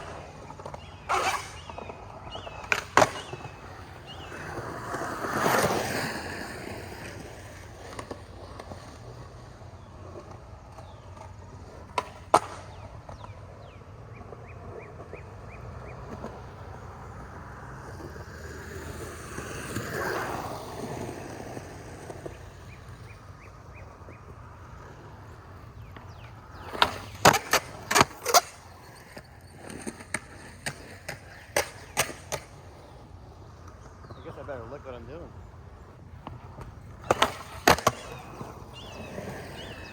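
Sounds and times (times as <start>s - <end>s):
skateboard clacks and slaps: 0.0s - 32.8s, 36.2s - 39.9s
skateboard wheels rolling: 0.0s - 39.9s.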